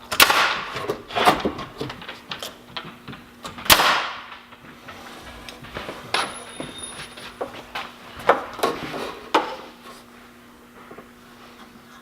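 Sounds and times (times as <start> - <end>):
loud knocks of wood and tools: 0.0 - 9.8.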